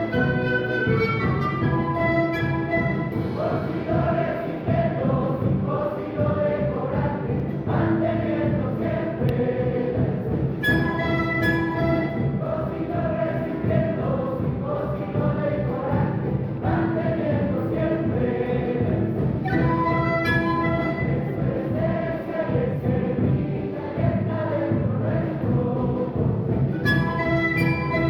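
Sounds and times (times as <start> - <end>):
choir-like voices: 0.0 - 28.0
orchestra of andean instruments: 0.0 - 28.0.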